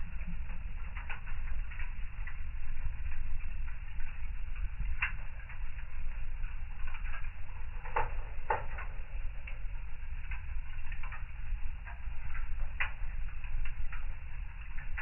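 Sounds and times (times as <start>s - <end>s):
fire pops and snaps: 0.0s - 15.0s
steady low rumble: 0.0s - 15.0s
wood fire crackling: 0.0s - 15.0s.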